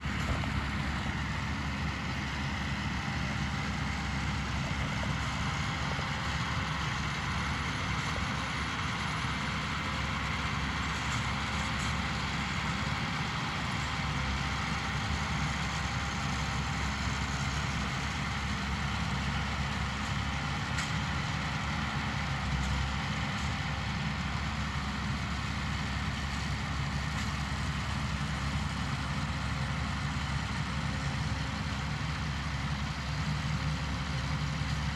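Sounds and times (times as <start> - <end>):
tractor engine drone: 0.0 - 34.9.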